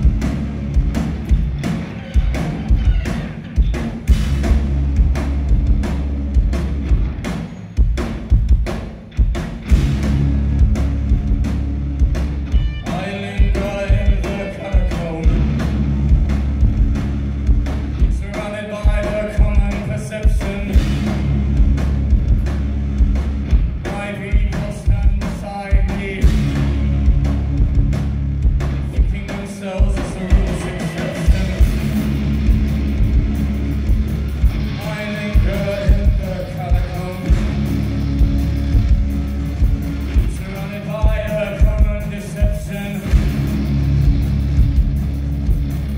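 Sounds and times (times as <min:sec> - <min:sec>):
drums keeping a steady beat: 0:00.0 - 0:45.9
live band playing loud music: 0:00.0 - 0:45.9.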